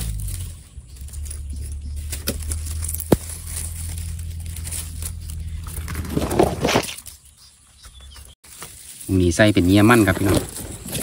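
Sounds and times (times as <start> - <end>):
rustling crinkling handling noise: 0.1 - 7.2, 8.4 - 11.0.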